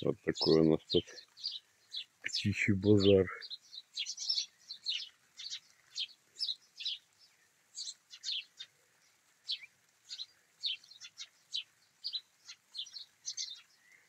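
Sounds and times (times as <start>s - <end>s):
sparrows chirping: 0.0s - 14.0s.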